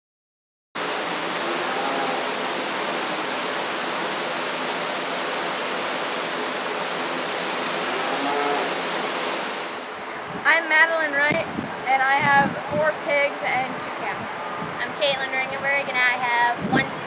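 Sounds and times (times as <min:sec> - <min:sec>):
electric fan rushing: 0:00.8 - 0:15.6.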